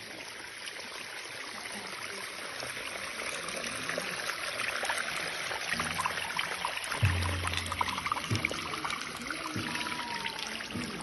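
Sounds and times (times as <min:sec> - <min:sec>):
stream trickling over rocks: 0:00.0 - 0:11.0.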